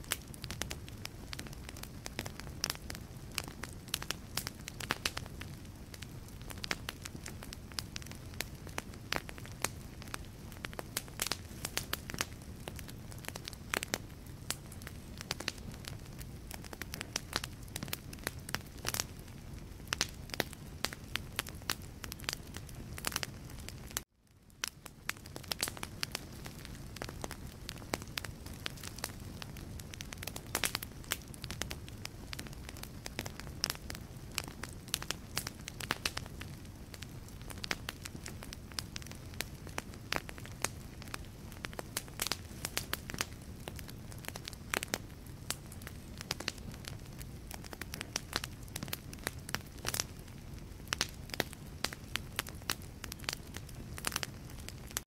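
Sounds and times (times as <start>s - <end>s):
fire rumbling: 0.0s - 55.0s
logs crackling and popping: 0.0s - 55.0s.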